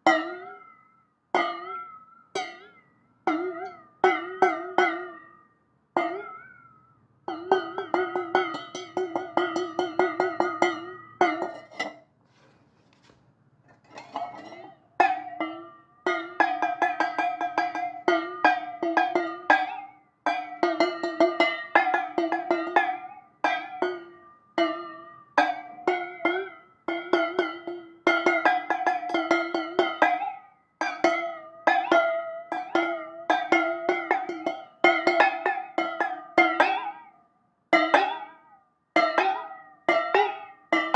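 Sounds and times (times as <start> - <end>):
plucked-sounding music: 0.0 - 12.0, 13.7 - 40.9.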